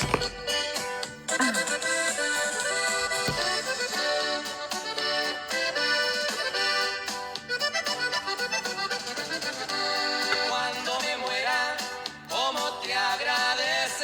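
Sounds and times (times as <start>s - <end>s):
accordion-led instrumental music: 0.0s - 13.6s.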